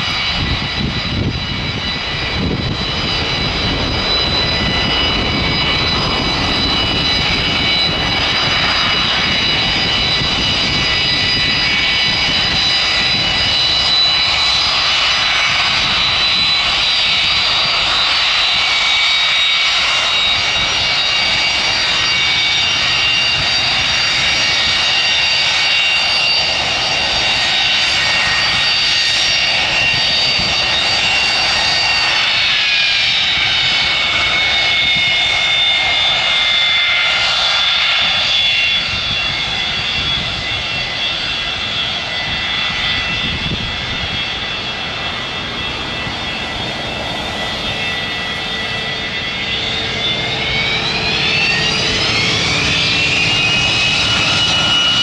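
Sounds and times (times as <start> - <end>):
jet engines rushing and whining: 0.0 - 55.0.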